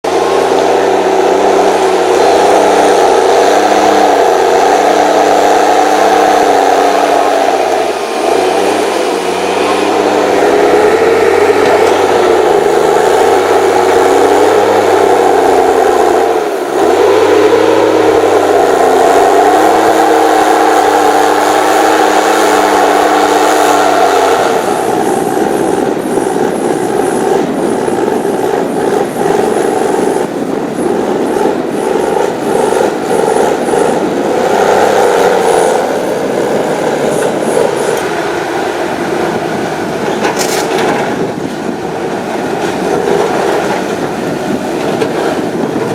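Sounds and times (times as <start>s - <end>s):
engine running under load: 0.0s - 45.9s.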